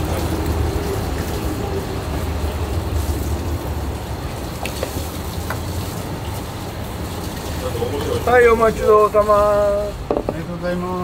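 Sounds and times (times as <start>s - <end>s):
low rumble of boiling station: 0.0s - 11.0s.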